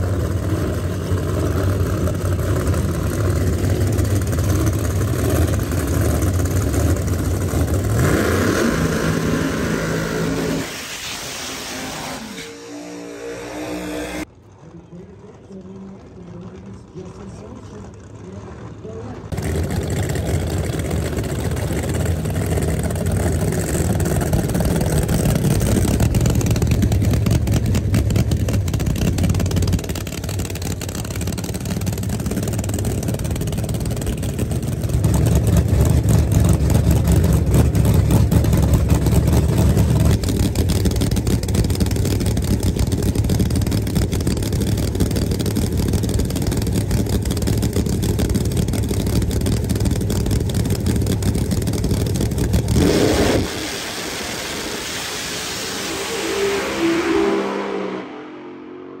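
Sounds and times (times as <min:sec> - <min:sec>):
car engine idling: 0:00.0 - 0:57.1.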